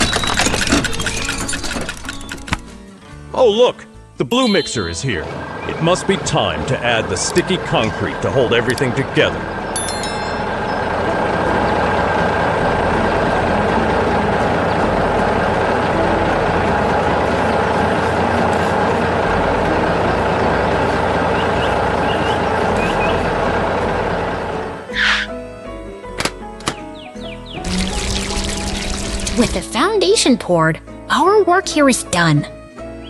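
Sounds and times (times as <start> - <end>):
truck engine rumbling: 0.0 - 3.3, 4.0 - 31.2.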